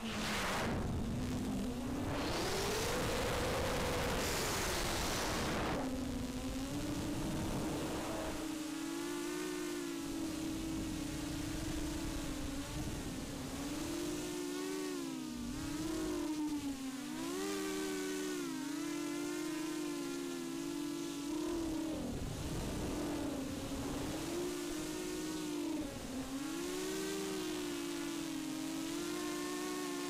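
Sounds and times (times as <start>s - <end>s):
quadcopter motors buzzing: 0.0s - 30.0s.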